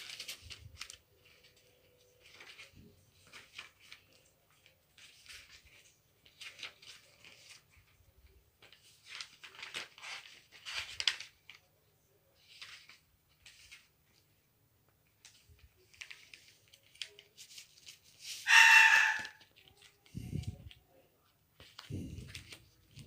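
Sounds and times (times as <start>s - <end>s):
paper pages turning: 0.0s - 14.4s, 15.0s - 23.0s.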